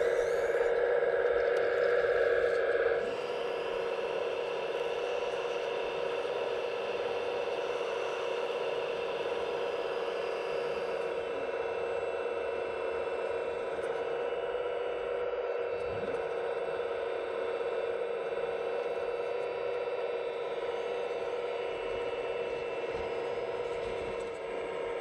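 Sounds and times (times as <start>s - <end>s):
hydraulic pump and motors whining: 0.0s - 25.0s.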